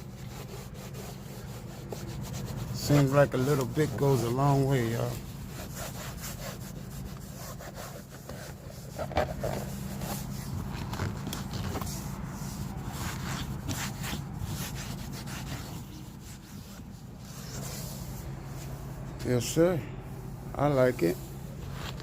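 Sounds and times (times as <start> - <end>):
pad wiping on a panel: 0.0 - 22.0
steady low hum: 0.0 - 22.0.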